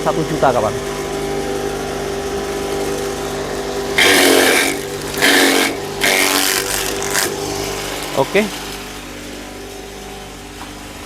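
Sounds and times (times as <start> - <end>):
electric motor hum: 0.0 - 11.0.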